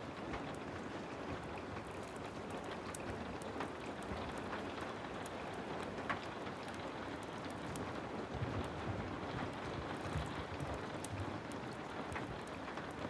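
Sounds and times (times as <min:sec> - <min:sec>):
heavy rain falling: 0:00.0 - 0:13.0
wood fire crackling: 0:00.0 - 0:13.0.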